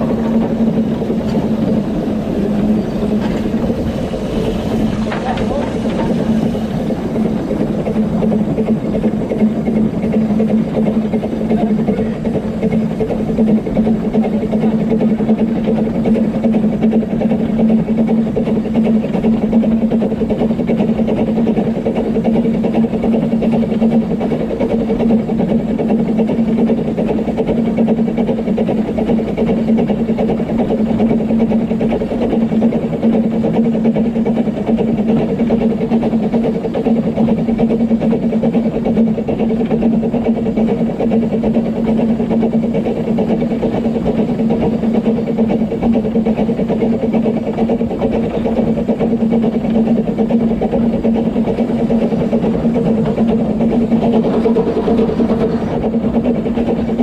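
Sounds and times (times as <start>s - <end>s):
low hum: 0.0s - 57.0s
steam train running: 0.0s - 57.0s.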